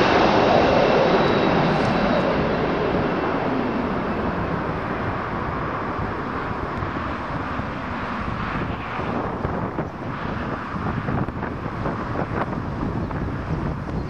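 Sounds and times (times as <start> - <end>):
jet airliner engines: 0.0 - 14.0
wind on microphone: 0.0 - 14.0.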